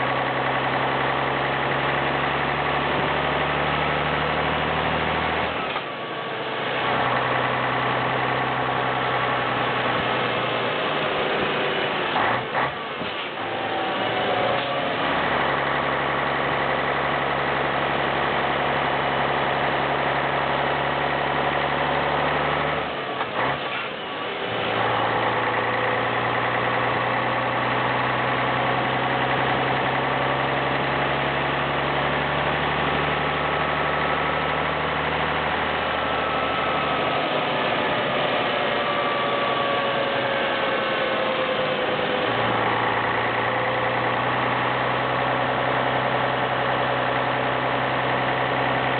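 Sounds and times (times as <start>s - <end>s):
truck diesel engine running: 0.0s - 48.9s.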